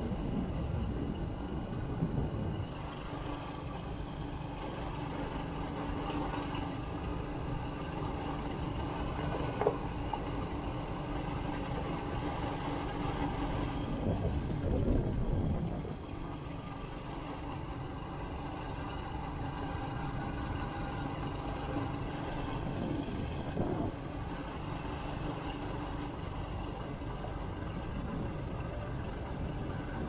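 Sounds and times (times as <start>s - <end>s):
road rumble: 0.0s - 30.0s
vehicle engine running: 0.0s - 30.0s.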